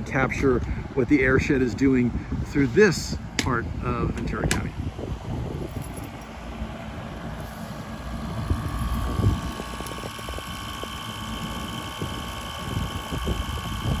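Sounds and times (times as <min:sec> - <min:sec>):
steady machine whine: 0:00.0 - 0:14.0
wind buffeting microphone: 0:00.0 - 0:14.0.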